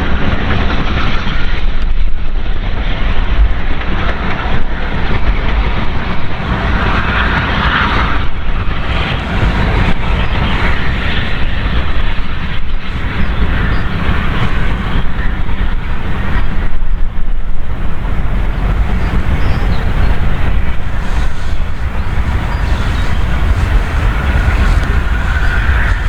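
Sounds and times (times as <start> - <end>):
train rumbling past: 3.7 - 26.0.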